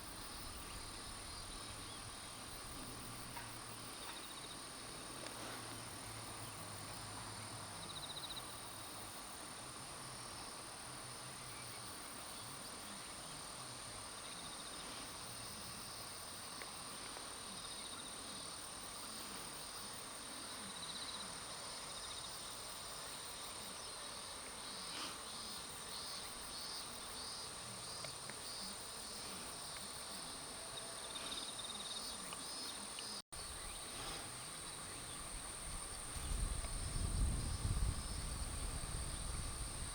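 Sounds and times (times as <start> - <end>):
crickets trilling: 0.0 - 9.4, 14.1 - 39.9.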